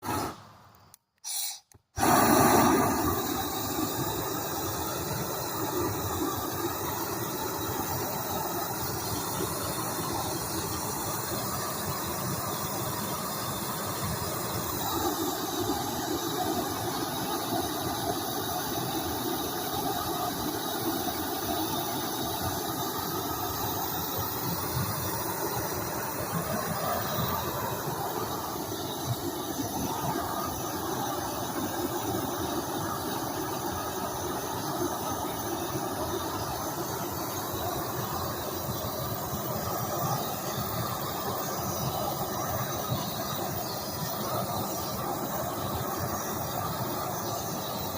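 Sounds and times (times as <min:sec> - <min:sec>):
gas torch flame hissing: 0:00.0 - 0:47.9.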